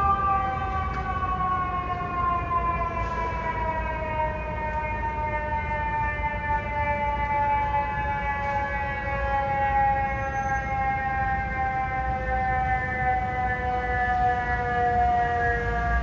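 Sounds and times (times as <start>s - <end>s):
fire engine siren winding down: 0.0s - 16.0s
low street and engine rumble: 0.0s - 16.0s.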